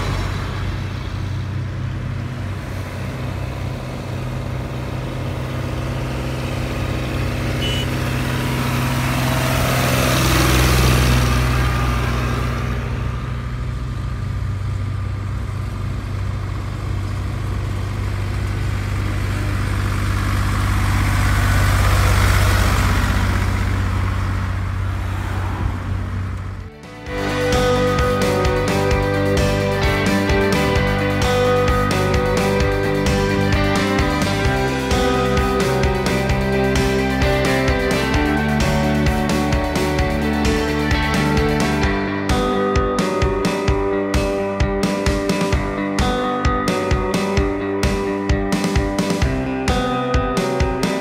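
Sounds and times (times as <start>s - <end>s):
tractor diesel engines passing: 0.0s - 51.0s.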